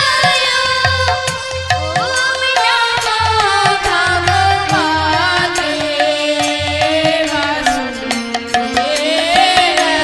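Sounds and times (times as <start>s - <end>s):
held keyboard melody: 0.0s - 10.0s.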